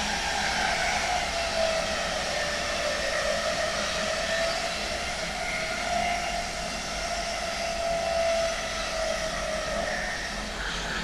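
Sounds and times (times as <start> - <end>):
electric locomotive inverter whine: 0.0 - 11.0
train rolling noise: 0.0 - 11.0.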